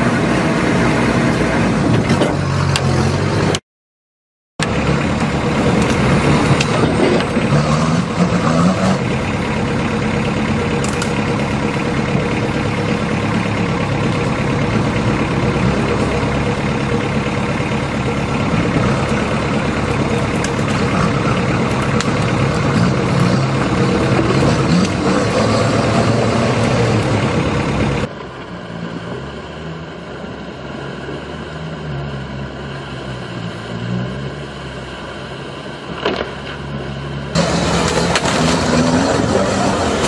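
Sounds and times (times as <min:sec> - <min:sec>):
diesel engines running: 0:00.0 - 0:03.6, 0:04.6 - 0:40.0.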